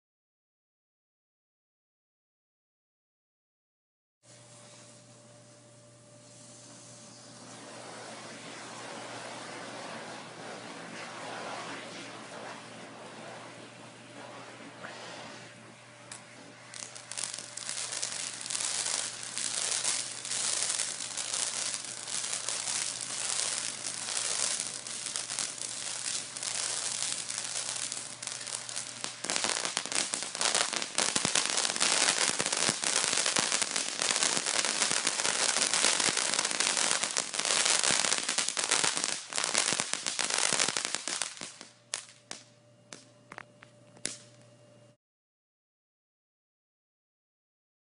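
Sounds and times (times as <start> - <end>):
fireworks hissing crackle: 4.3 - 43.4, 44.0 - 44.4.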